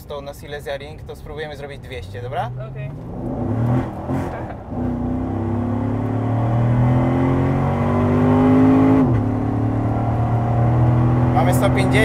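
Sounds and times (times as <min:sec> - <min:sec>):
car engine accelerating hard: 0:02.3 - 0:12.0.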